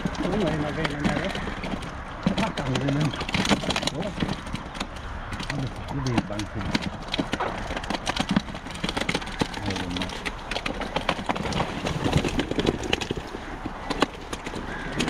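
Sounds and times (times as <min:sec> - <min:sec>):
fish flapping and slapping: 0:00.0 - 0:15.0.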